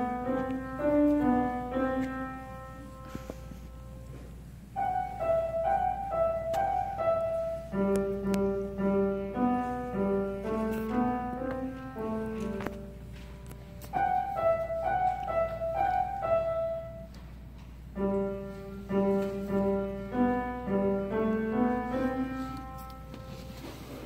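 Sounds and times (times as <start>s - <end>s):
grand piano piece: 0.0s - 24.0s.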